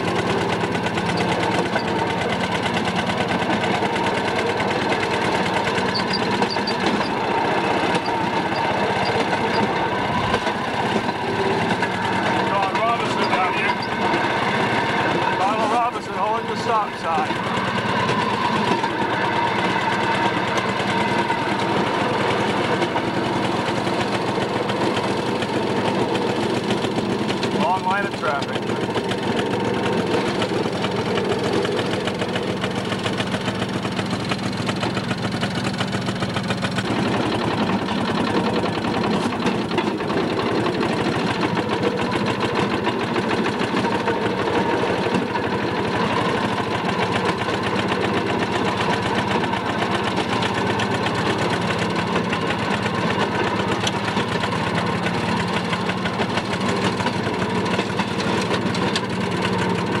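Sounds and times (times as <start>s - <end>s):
small engine clattering: 0.0s - 60.0s.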